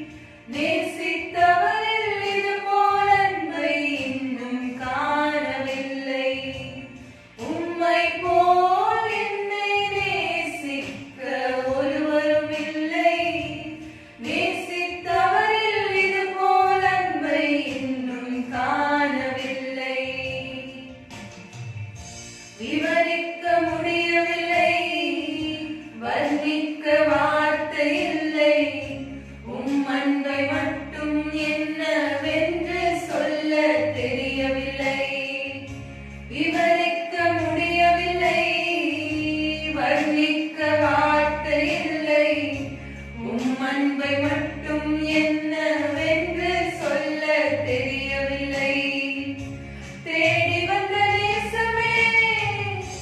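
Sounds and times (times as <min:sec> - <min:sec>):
two women singing into a microphone: 0:00.0 - 0:21.0, 0:22.6 - 0:53.0.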